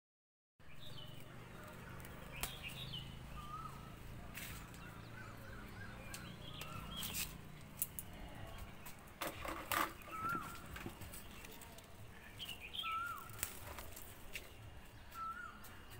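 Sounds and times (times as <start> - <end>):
small birds chirping: 0.6 - 15.9.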